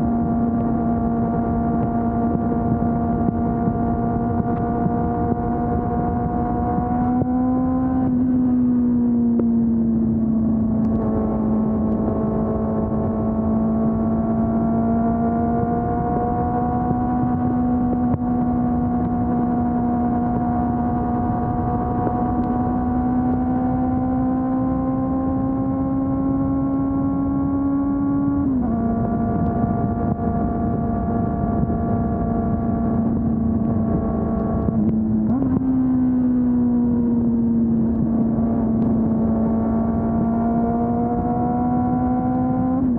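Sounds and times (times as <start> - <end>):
motorcycle engine running: 0.0 - 42.9
road noise: 0.0 - 42.9
wind noise: 0.0 - 42.9.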